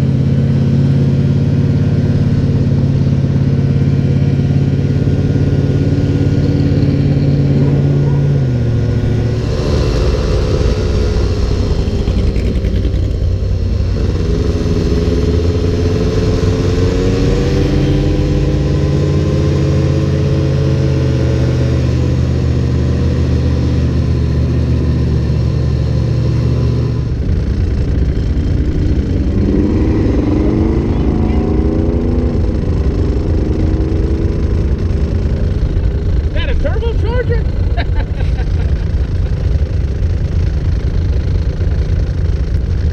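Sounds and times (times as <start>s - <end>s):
engine accelerating: 0.0s - 42.9s
low engine drone: 0.0s - 42.9s
vehicle engines revving: 0.0s - 42.9s.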